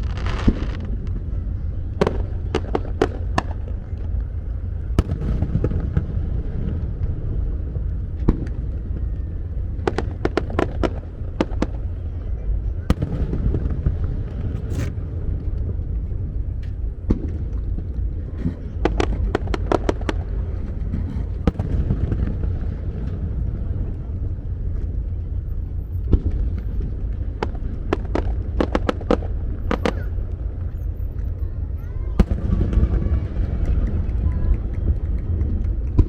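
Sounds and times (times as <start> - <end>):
continuous low rumble: 0.0 - 36.0
fireworks crackling pops: 0.0 - 36.0.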